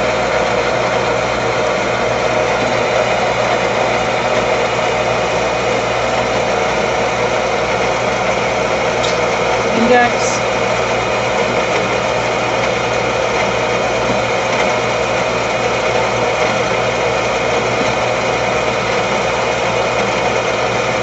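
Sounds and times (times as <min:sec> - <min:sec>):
lathe machine hum: 0:00.0 - 0:21.0.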